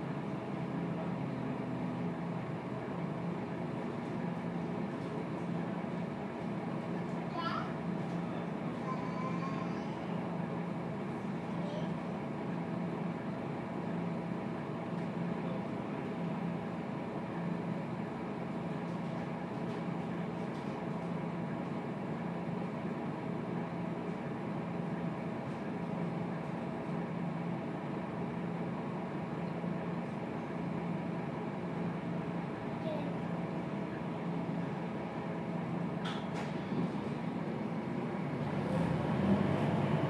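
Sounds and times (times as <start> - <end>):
bus diesel engine idling: 0.0 - 40.0.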